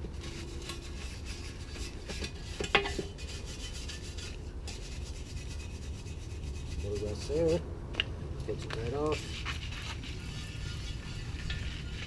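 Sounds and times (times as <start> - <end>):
brush scrubbing metal: 0.1 - 7.6, 8.8 - 12.0.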